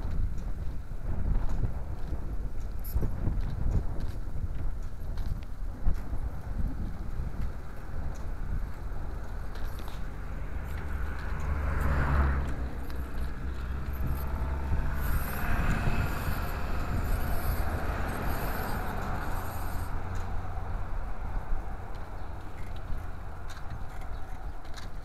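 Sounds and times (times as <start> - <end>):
vehicle rumble on a road: 0.0 - 25.0.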